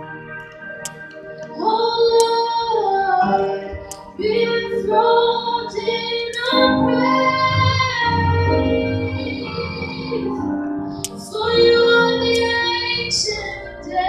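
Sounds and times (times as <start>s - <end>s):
instrumental backing music: 0.0s - 14.0s
woman singing: 1.5s - 14.0s.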